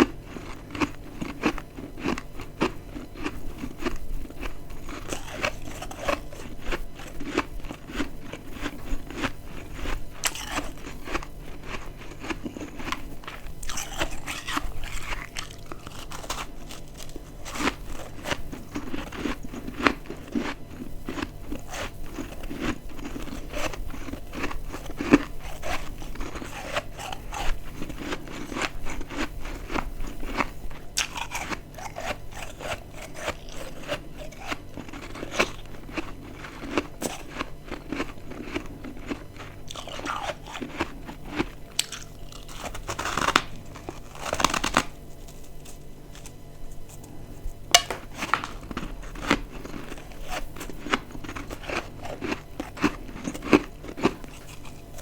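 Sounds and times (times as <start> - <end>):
person chewing crunchy frost: 0.0 - 55.0.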